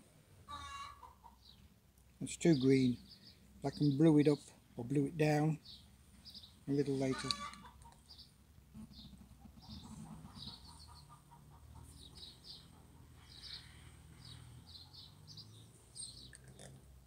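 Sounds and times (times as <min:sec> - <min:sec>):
small birds chirping: 0:00.5 - 0:17.0.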